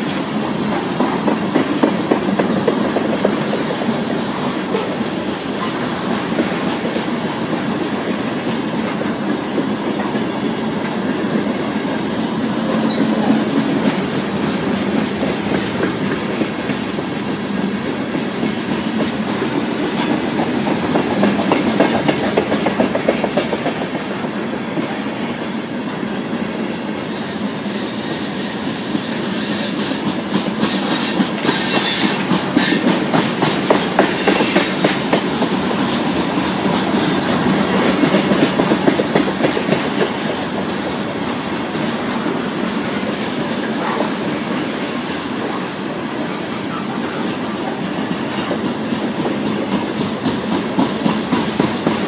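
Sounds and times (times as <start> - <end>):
train wheels rumbling and clicking: 0.0 - 52.0.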